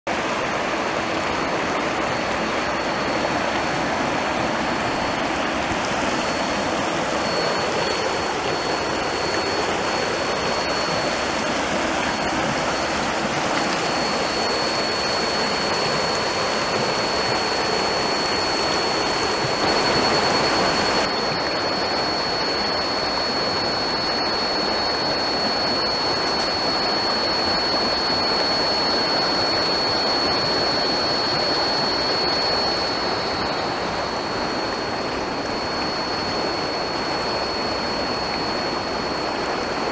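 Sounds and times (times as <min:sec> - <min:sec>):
high-pitched tone: 0:00.1 - 0:39.9
river water rushing over stones: 0:00.1 - 0:39.9.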